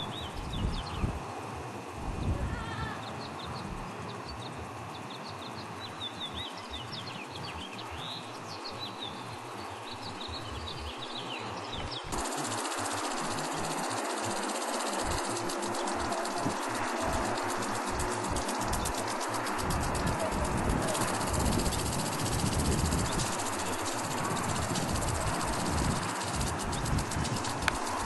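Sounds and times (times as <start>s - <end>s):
birds chirping: 0.0s - 28.0s
steady outdoor hiss: 0.0s - 28.0s.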